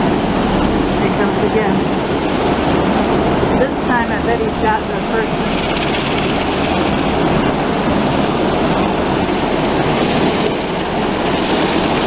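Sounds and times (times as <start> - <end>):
helicopter hovering overhead: 0.0 - 12.0.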